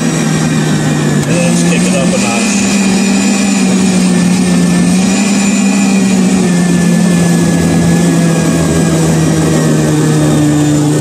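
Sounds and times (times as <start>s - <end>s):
blender running: 0.0s - 11.0s.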